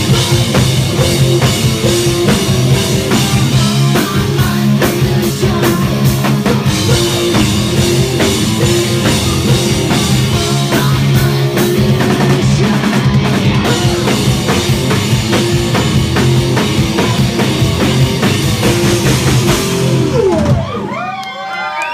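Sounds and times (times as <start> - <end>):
distorted electric guitars: 0.0 - 21.0
drum kit beat: 0.0 - 21.0
bass guitar: 0.0 - 21.1.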